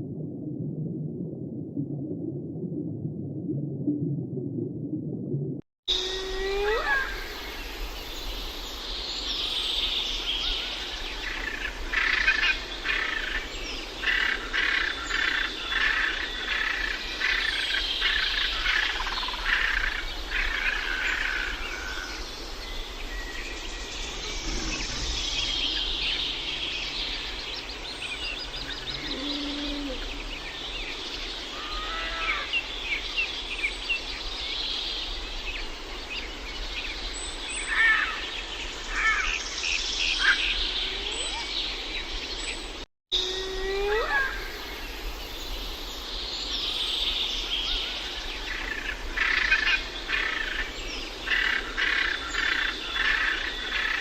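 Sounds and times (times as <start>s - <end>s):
birds singing and chirping: 6.0s - 54.0s.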